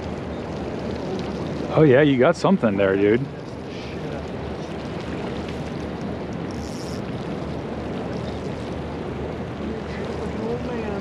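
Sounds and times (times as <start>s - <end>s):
water lapping around boat: 0.0s - 11.0s.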